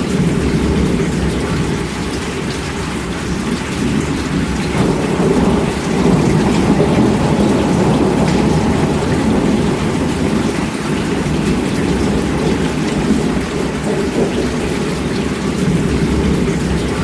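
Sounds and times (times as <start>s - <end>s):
heavy rainfall: 0.0s - 17.0s
thunder rumble: 0.0s - 17.0s.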